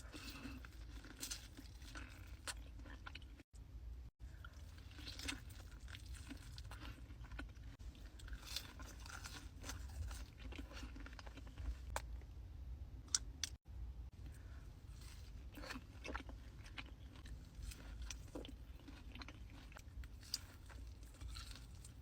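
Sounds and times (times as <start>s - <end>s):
crunching and chewing food: 0.0s - 3.6s, 4.2s - 12.3s, 14.2s - 22.0s.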